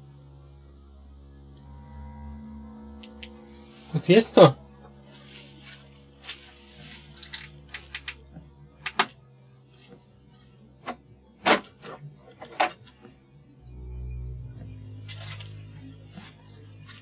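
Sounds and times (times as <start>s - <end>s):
low music drone: 0.0s - 17.0s.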